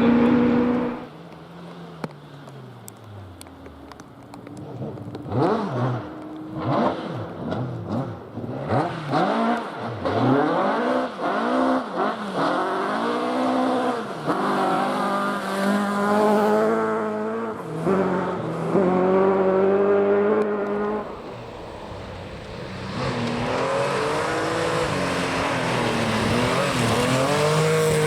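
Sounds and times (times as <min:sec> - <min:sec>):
rally car engine revving: 0:00.0 - 0:01.1, 0:03.9 - 0:28.0.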